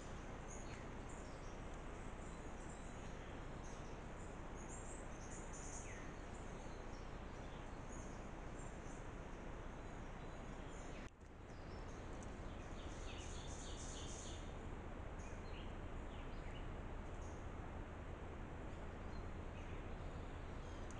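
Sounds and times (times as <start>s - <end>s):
steady outdoor hiss: 0.0s - 20.9s.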